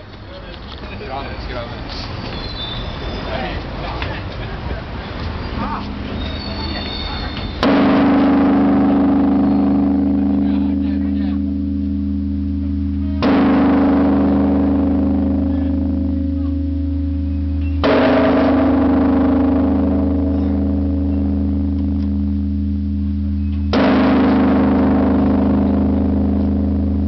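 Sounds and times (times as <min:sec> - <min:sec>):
deep steady hum: 0:04.8 - 0:27.0
large bell clanging: 0:05.1 - 0:27.0.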